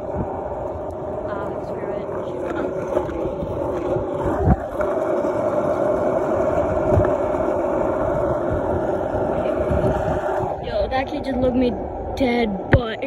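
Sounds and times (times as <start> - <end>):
skateboard wheels rolling on asphalt: 0.0 - 12.1.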